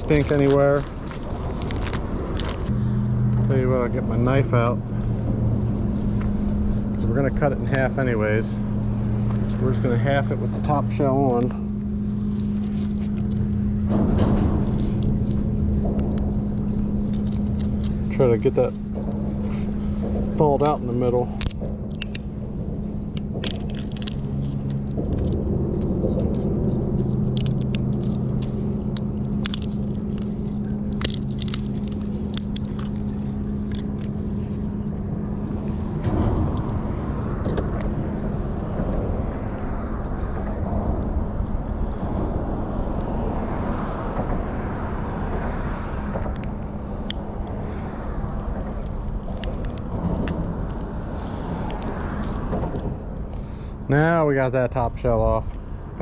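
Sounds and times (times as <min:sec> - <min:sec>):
low engine hum: 0:00.0 - 0:56.0
road traffic rumble: 0:00.0 - 0:56.0.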